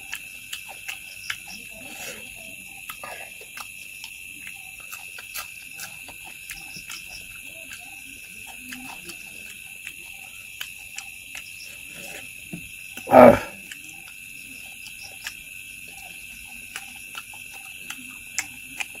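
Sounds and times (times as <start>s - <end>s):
insect chorus: 0.0s - 19.0s
wet chewing and smacking: 0.0s - 19.0s.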